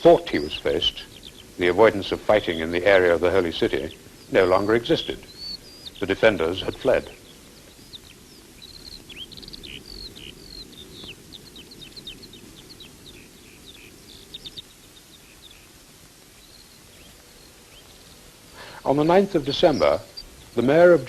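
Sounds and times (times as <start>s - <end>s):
low background hum: 0.0s - 21.0s
small birds chirping: 0.0s - 21.0s.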